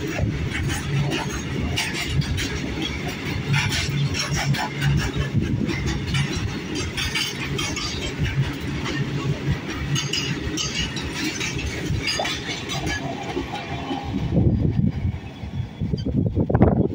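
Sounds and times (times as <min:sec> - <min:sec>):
wheels clattering over rail joints: 0:00.0 - 0:15.3
train wheels rumbling on rail: 0:00.0 - 0:16.9.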